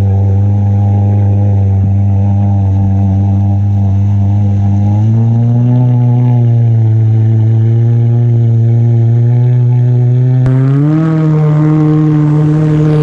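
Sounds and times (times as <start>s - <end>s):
jet ski engine running hard: 0.0s - 13.0s.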